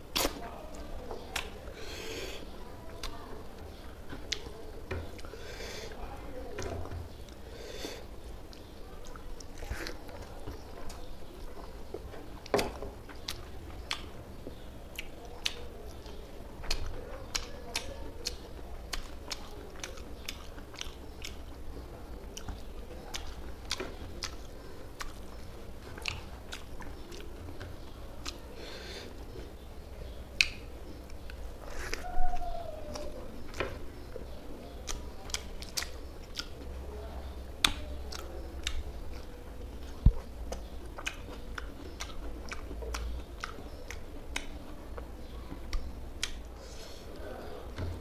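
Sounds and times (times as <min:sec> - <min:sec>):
person chewing with mouth clicks: 0:00.1 - 0:06.0, 0:06.6 - 0:21.6, 0:22.2 - 0:34.1, 0:34.7 - 0:36.8, 0:37.6 - 0:47.9.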